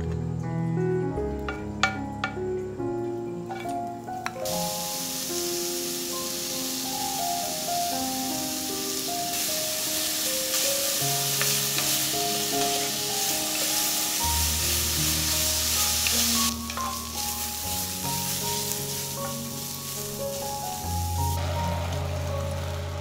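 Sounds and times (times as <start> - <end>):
radish sizzling in a pot: 4.4 - 23.0.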